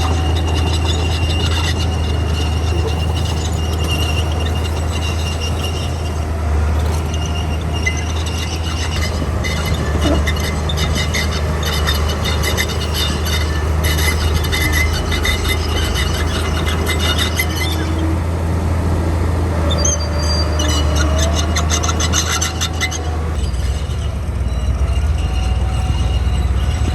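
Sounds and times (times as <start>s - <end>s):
bulldozer diesel engine droning: 0.0s - 26.9s
steel tracks clanking and squealing: 0.0s - 26.9s.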